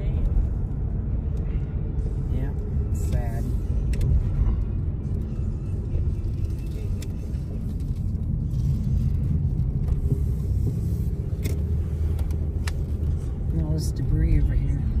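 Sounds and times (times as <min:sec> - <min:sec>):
car road rumble from inside: 0:00.0 - 0:15.0.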